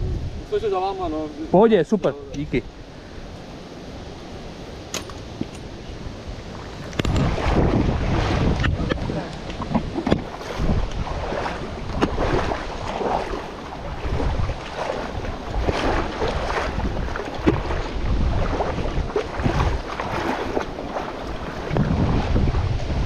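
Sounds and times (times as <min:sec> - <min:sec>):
wind buffeting microphone: 0:00.0 - 0:23.0
river water flowing: 0:00.2 - 0:23.0
water splashes: 0:03.8 - 0:23.0.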